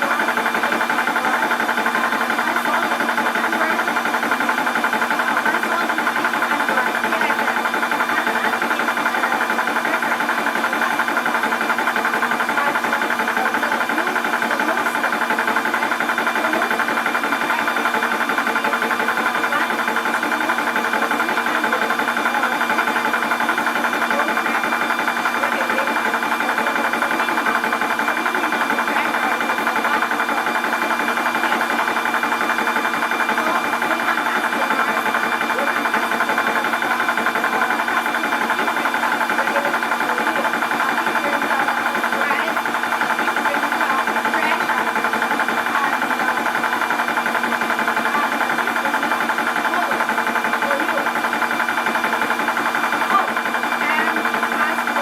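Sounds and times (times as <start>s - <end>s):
air compressor pumping: 0.0s - 55.0s.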